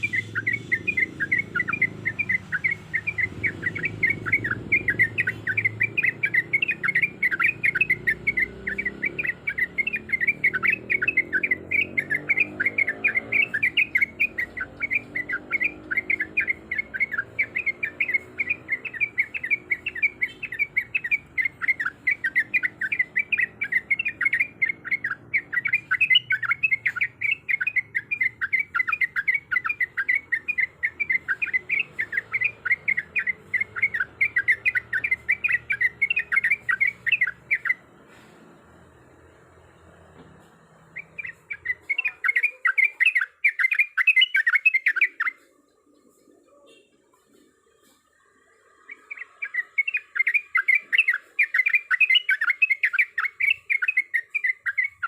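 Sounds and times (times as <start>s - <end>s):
bird chirping rapidly: 0.0s - 55.0s.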